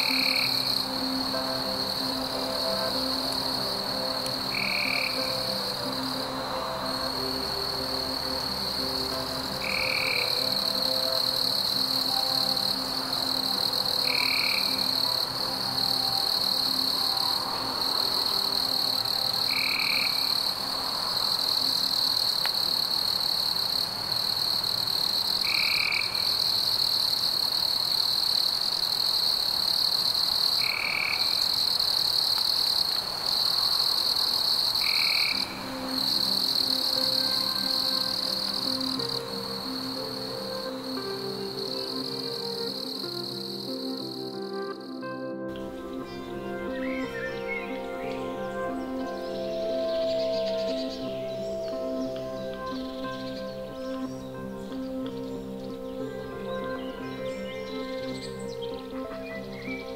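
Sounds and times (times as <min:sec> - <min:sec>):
faint music tones: 0:00.0 - 0:59.9
high insect trill: 0:00.0 - 0:59.9.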